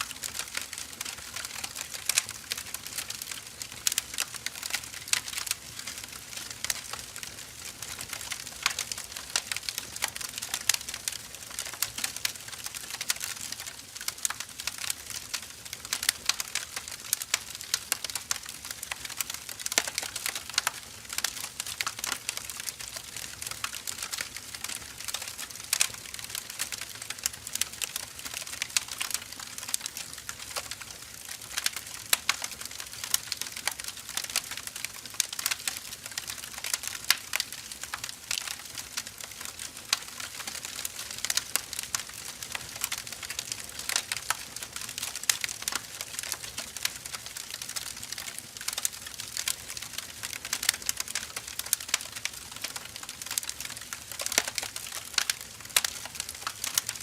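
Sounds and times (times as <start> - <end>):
firewood crackling: 0.0 - 57.0.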